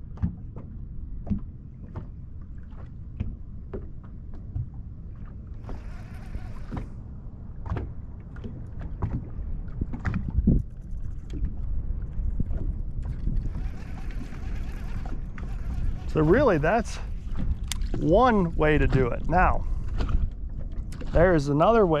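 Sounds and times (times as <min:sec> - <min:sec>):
low wind rumble: 0:00.0 - 0:22.0
waves slapping against boat hull: 0:00.0 - 0:22.0.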